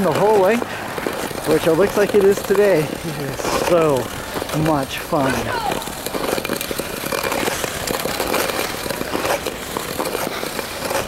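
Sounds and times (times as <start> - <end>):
clicks and crackles of blades: 0.0 - 11.0
ice skates scraping on ice: 0.0 - 11.0.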